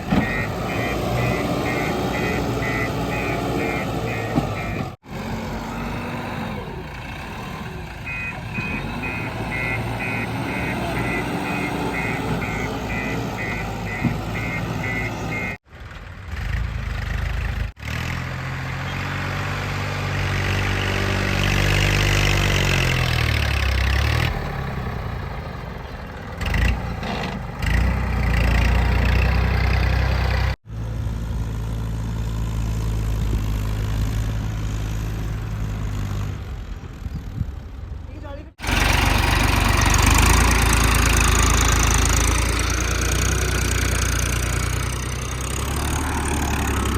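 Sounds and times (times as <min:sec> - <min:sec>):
diesel engine working: 0:00.0 - 0:46.9.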